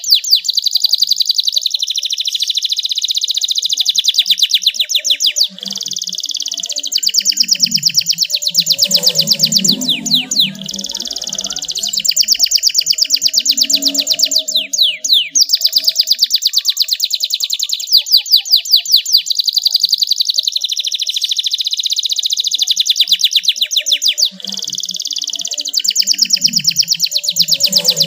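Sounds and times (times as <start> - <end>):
canary singing: 0.0 - 28.0.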